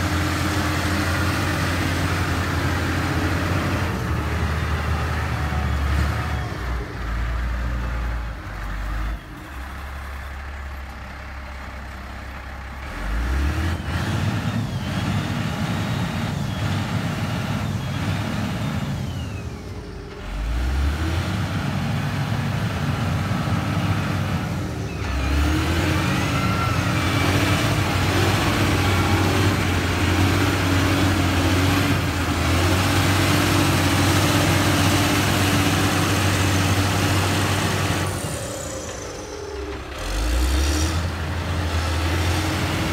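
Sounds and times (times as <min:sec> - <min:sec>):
diesel engine of a grader: 0:00.0 - 0:42.9.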